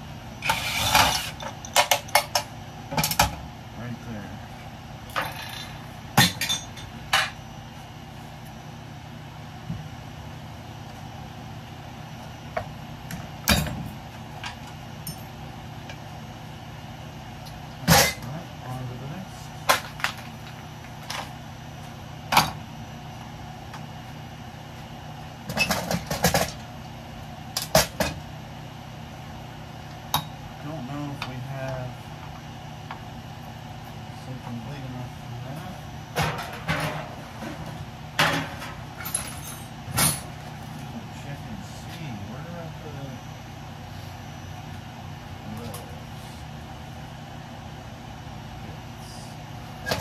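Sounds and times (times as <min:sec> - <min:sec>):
steady background hum: 0:00.0 - 0:50.0.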